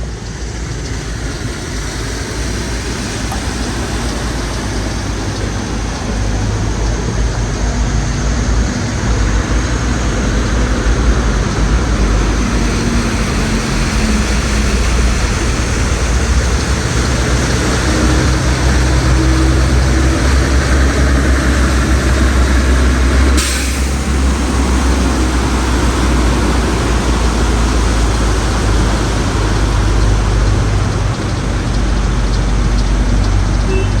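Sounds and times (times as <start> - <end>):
road noise: 0.0 - 34.0
vehicle low rumble: 0.0 - 34.0.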